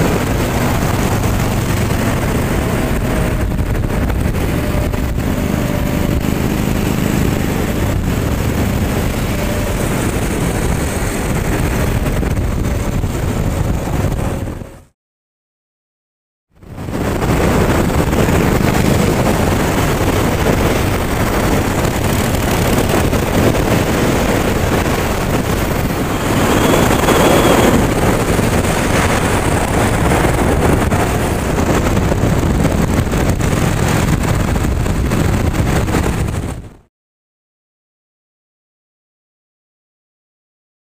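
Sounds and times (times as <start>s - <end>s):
motorcycle engine rumble: 0.0s - 14.9s, 16.6s - 36.9s
wind noise on microphone: 0.0s - 14.9s, 16.6s - 36.9s.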